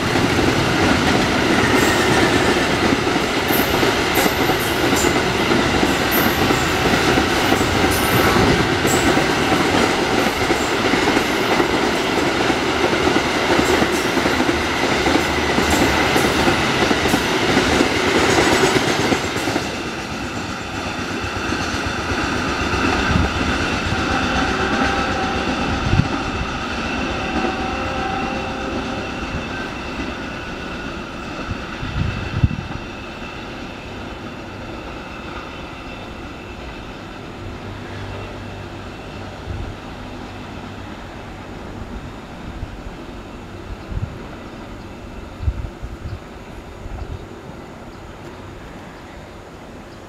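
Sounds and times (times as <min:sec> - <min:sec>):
freight train rolling on rails: 0:00.0 - 0:50.0.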